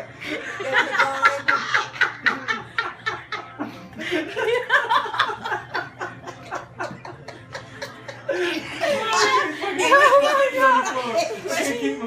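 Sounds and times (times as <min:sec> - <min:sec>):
people laughing: 0:00.0 - 0:12.0.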